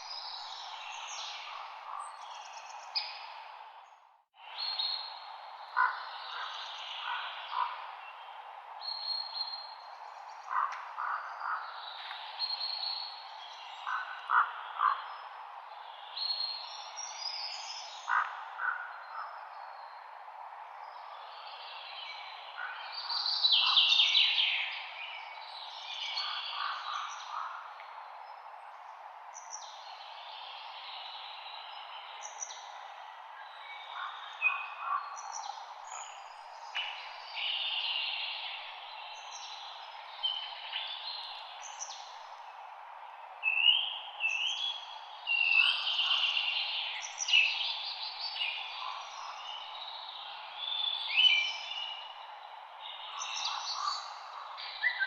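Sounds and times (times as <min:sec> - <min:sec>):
light wind in leaves: 0:00.0 - 0:55.0
songbirds singing: 0:00.0 - 0:55.0.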